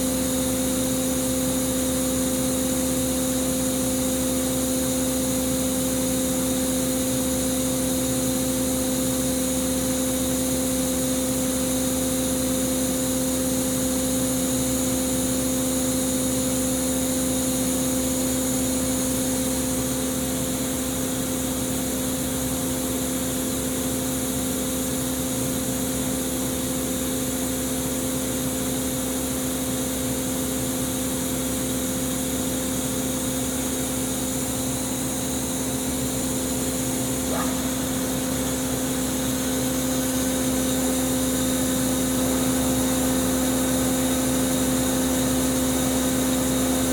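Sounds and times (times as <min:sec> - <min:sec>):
machine hum with steady whine: 0:00.0 - 0:46.9.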